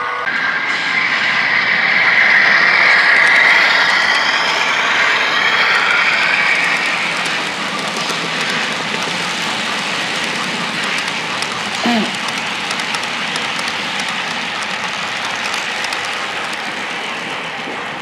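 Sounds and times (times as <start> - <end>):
model locomotive whine: 0.0 - 18.0
train wheels clattering on track: 0.3 - 18.0.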